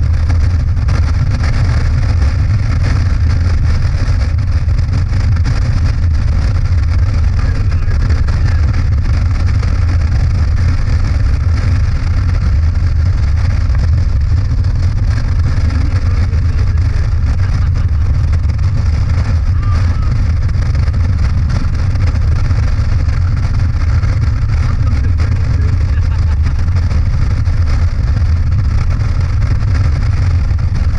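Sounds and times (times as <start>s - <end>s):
motorcycle engine drone: 0.0s - 30.9s
wind rush: 0.0s - 30.9s.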